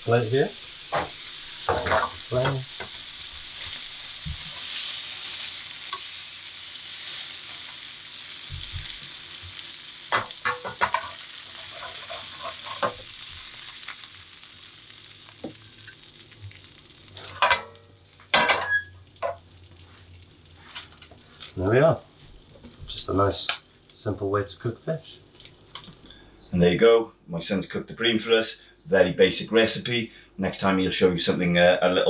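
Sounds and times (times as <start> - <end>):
fish sizzling in butter: 0.0 - 26.0.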